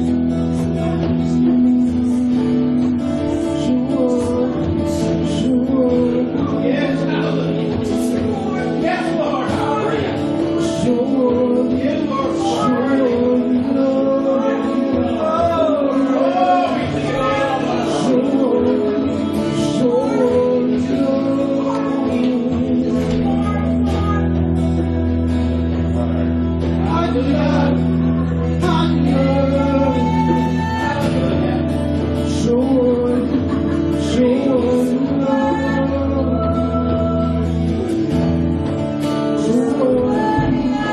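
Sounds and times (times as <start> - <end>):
voices singing worship music: 0.0 - 24.4, 26.8 - 40.9
guitar accompaniment: 0.0 - 40.9.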